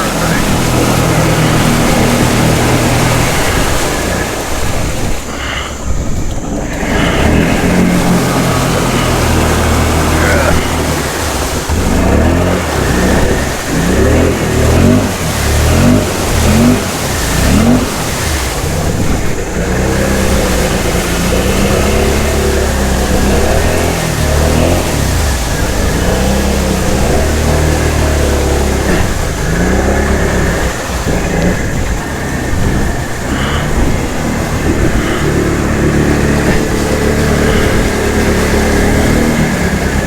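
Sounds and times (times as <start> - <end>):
atv engine revving: 0.0 - 40.0
splashing through mud and water: 0.0 - 40.0.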